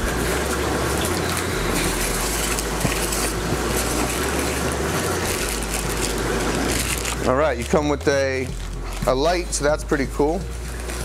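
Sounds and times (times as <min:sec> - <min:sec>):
circulating water and pumps: 0:00.0 - 0:11.0
low hum: 0:00.0 - 0:11.0.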